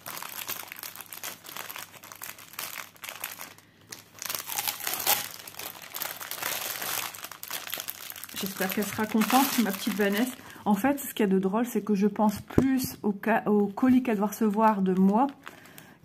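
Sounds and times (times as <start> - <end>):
plastic film crinkling: 0.0 - 10.4, 13.5 - 16.0.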